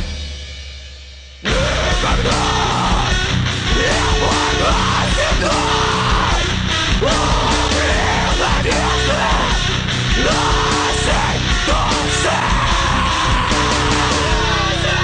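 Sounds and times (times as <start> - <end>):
heavy rock song: 0.0 - 15.0
person shouting vocals: 1.5 - 15.0.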